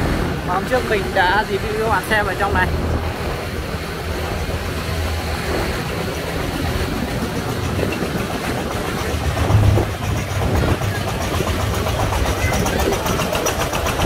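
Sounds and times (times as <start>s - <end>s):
diesel engine throbbing: 0.0s - 14.0s.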